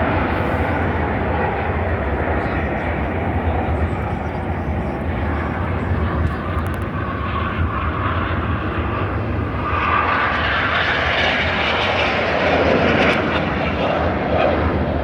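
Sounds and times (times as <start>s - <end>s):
airplane flying past: 0.0s - 15.0s.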